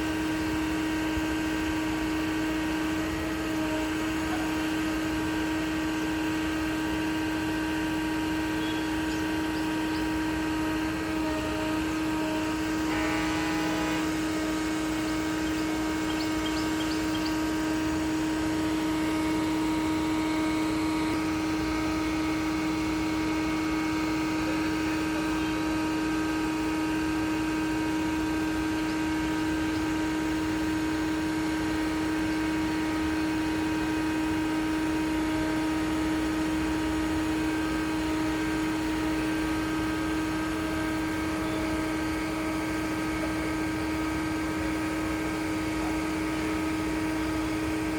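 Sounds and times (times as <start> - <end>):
pump engine droning: 0.0 - 47.9.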